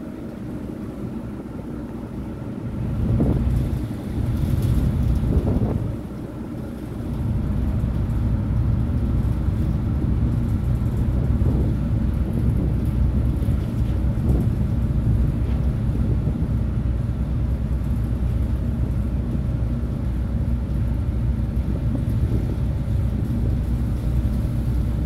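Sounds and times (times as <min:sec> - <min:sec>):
ship engine drone: 0:00.0 - 0:25.0
wind buffeting microphone: 0:00.0 - 0:25.0.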